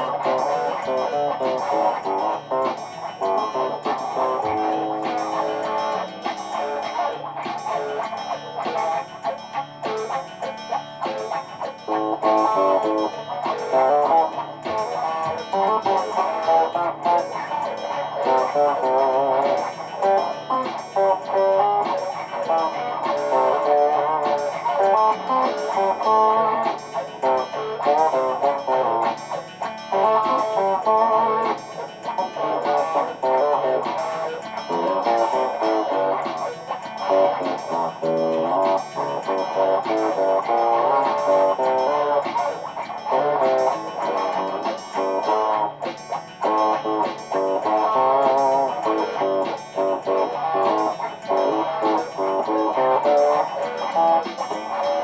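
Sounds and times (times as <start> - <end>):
electric guitar music: 0.0 - 55.0.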